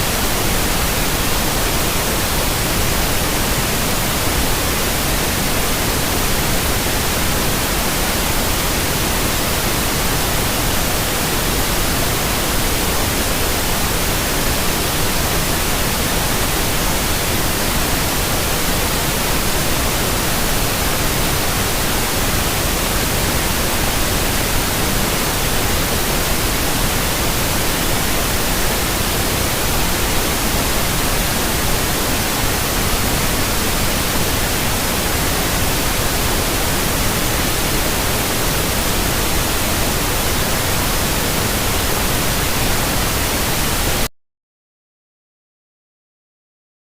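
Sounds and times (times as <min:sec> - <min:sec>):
white noise hiss: 0:00.0 - 0:44.1.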